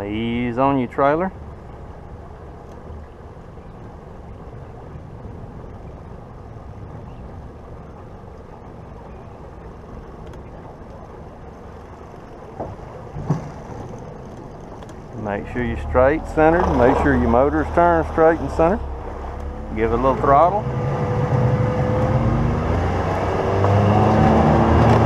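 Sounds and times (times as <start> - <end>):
outboard motor idling: 0.0 - 22.4.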